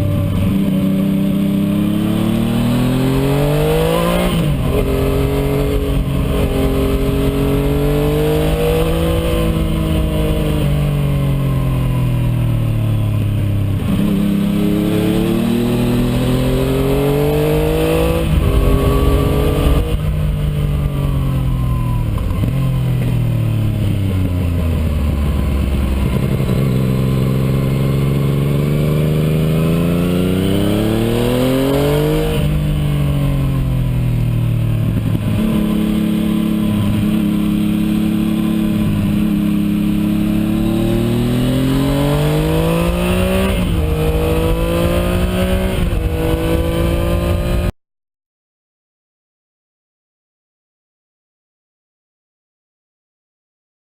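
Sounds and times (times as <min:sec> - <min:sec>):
motorcycle engine revving through gears: 0:00.0 - 0:47.7.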